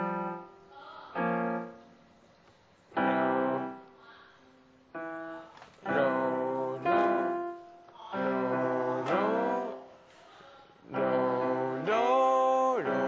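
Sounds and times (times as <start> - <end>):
digital piano chords: 0.0 - 10.1, 10.8 - 13.0.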